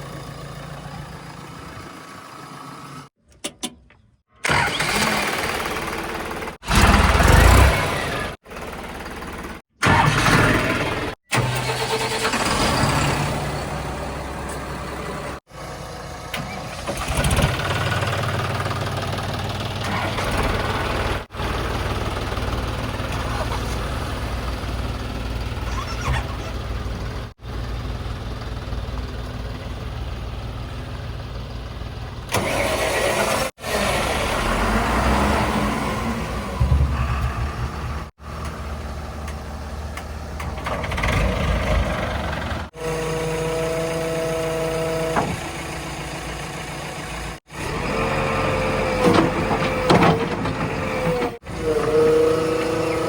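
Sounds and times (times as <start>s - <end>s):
heavy diesel machinery engines: 0.0s - 3.7s, 4.4s - 53.0s.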